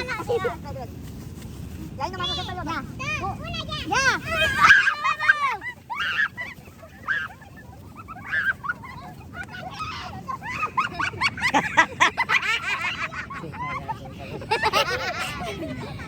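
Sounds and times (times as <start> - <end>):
children shouting and squealing: 2.2 - 16.0.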